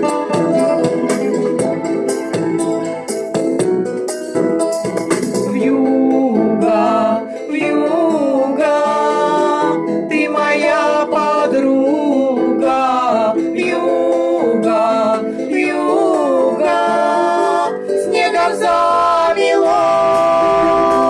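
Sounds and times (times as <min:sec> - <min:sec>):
person singing: 0:00.0 - 0:03.8, 0:05.2 - 0:21.0
plucked string accompaniment: 0:00.0 - 0:21.0.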